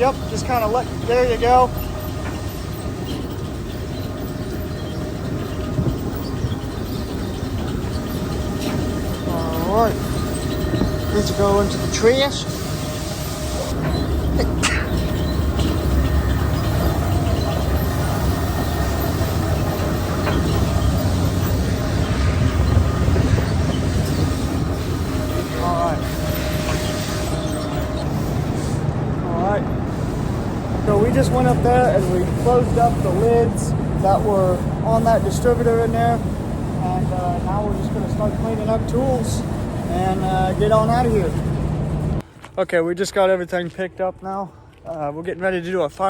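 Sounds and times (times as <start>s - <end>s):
machinery rumbling: 0.0s - 42.4s.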